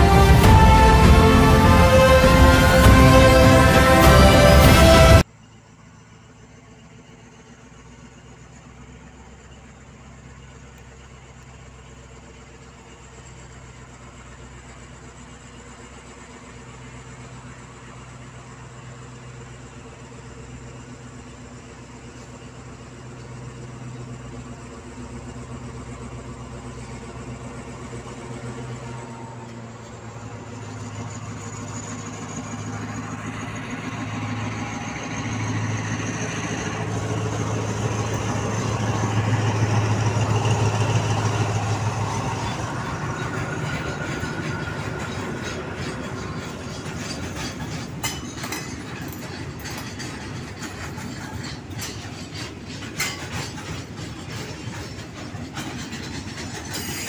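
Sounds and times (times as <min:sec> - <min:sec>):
diesel locomotive engine hum: 0:00.0 - 0:57.0
train wheels clicking over rail joints: 0:08.6 - 0:57.0.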